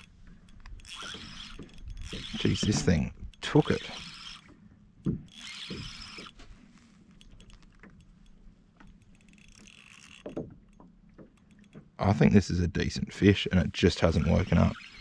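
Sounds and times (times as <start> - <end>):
fishing reel ticking: 0.0 - 12.1, 14.0 - 15.0.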